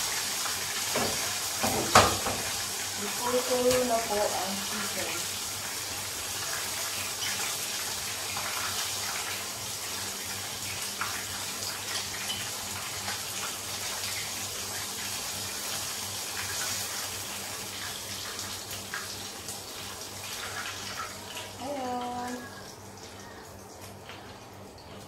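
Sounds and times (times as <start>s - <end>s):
chicken sizzling in hot oil: 0.0s - 24.7s.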